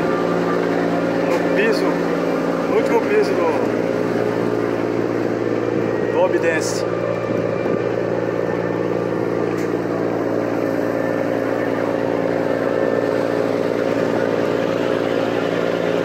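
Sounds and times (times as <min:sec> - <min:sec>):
boat engines humming: 0:00.0 - 0:16.0.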